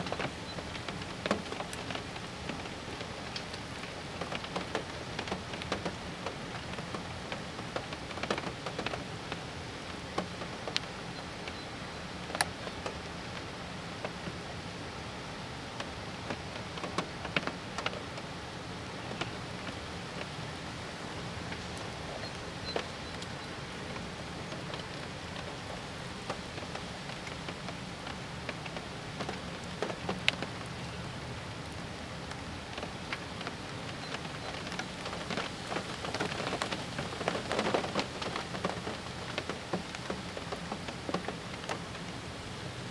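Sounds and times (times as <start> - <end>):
raindrops ticking sharply: 0.0 - 14.4, 15.7 - 42.9
rain falling: 0.0 - 42.9.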